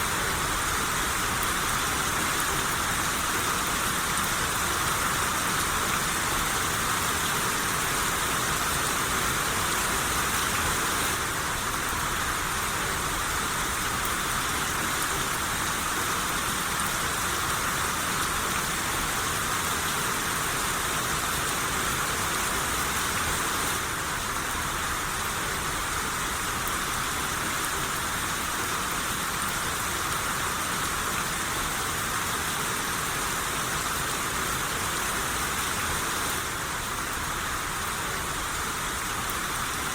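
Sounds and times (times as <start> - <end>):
rain shower hissing: 0.0 - 39.9.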